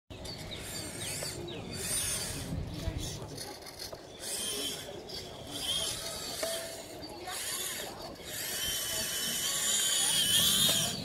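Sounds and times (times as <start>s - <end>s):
toy loader motors whining: 0.1s - 11.0s.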